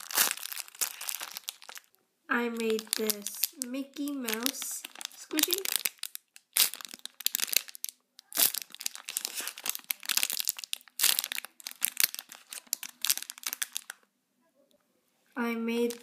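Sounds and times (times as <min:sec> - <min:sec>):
plastic bag crinkling: 0:00.0 - 0:14.0, 0:15.8 - 0:16.0.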